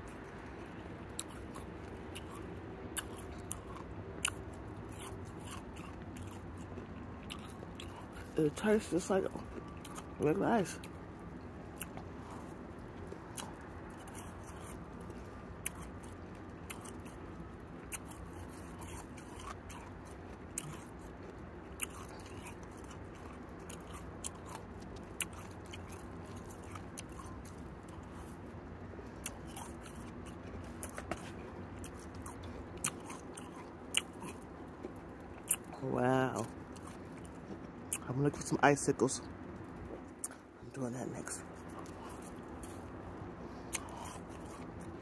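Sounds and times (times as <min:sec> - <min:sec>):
low background noise: 0:00.0 - 0:45.0.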